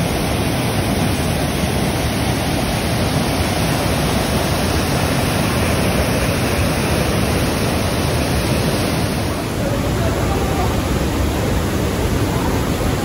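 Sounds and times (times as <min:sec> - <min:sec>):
rushing white water: 0:00.0 - 0:13.0.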